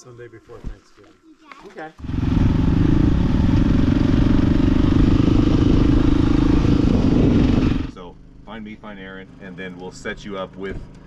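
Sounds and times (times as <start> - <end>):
dirt bike engine running: 2.0 - 11.0.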